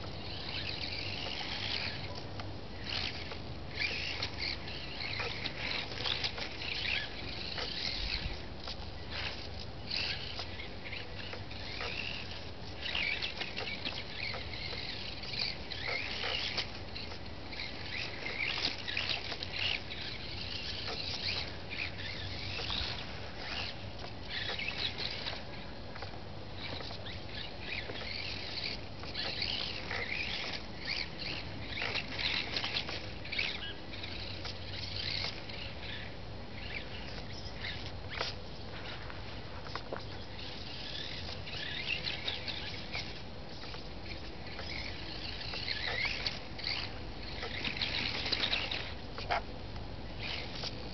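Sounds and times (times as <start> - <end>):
small electric motor whirring: 0.0 - 50.9.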